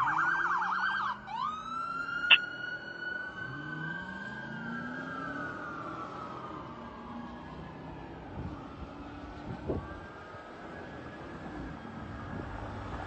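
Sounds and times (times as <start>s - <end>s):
fire truck siren: 0.0s - 13.0s.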